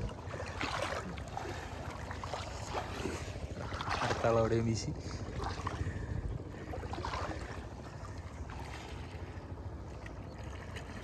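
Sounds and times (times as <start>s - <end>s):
water splashing around wading people: 0.0s - 11.0s
wind buffeting microphone: 0.0s - 11.0s.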